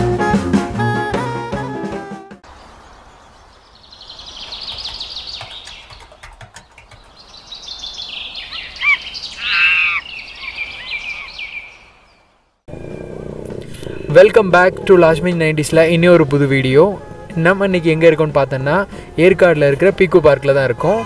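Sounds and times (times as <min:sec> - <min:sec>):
birdsong with chirping trills: 0:02.4 - 0:21.0.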